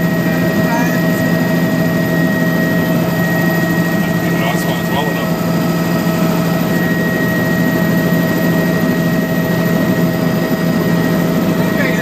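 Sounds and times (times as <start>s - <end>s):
helicopter engine and rotors: 0.0s - 12.0s.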